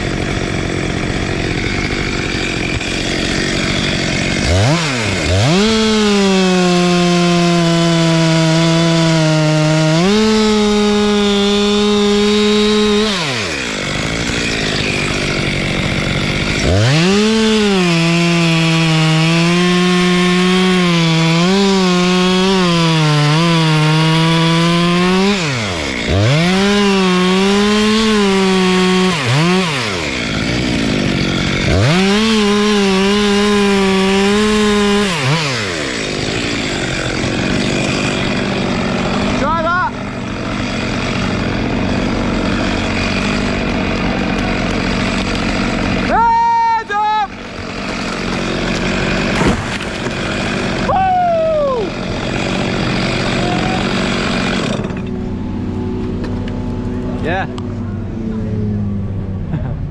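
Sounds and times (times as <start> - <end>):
chainsaw cutting wood: 0.0 - 57.8.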